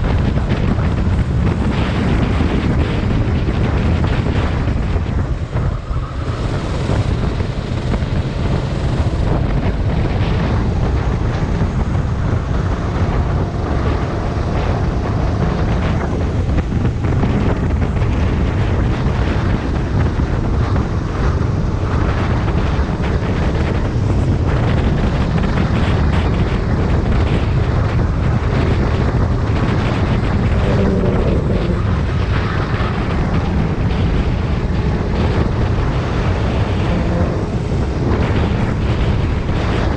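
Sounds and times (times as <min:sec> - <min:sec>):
kart engine running hard: 0:00.0 - 0:39.9
other karts running: 0:00.0 - 0:39.9
wind buffeting microphone: 0:00.0 - 0:39.9.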